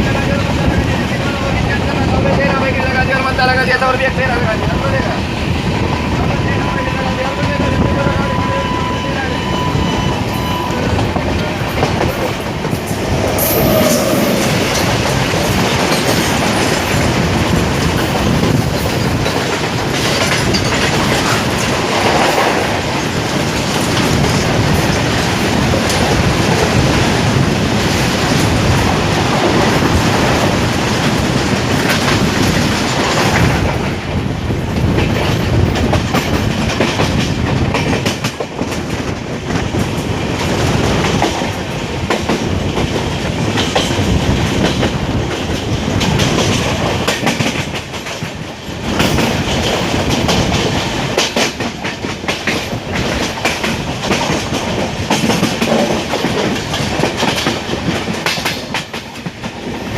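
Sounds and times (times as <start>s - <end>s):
train rushing noise: 0.0s - 59.9s
train wheels clattering: 9.4s - 59.9s.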